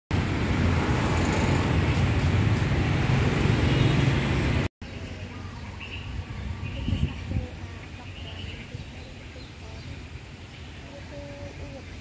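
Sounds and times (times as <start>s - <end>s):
street traffic rumble: 0.1s - 12.0s.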